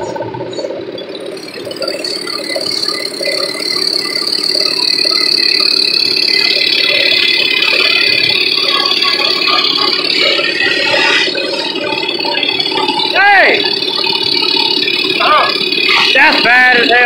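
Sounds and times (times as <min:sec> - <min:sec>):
moped engines running together: 0:00.0 - 0:17.0.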